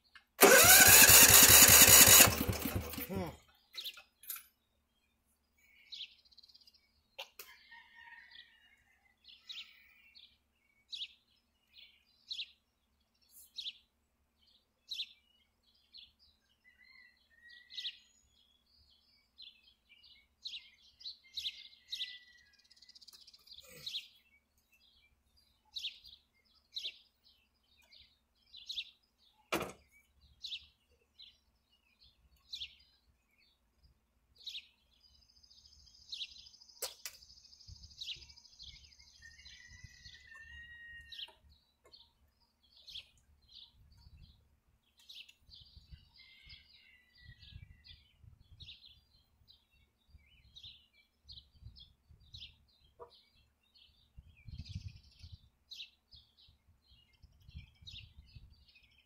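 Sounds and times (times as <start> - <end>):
small birds chirping: 1.6 - 8.1, 9.3 - 59.0.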